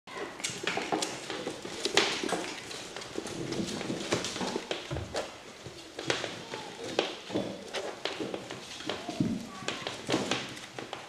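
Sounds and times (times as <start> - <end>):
puppy claws clicking on floor: 0.1 - 11.0.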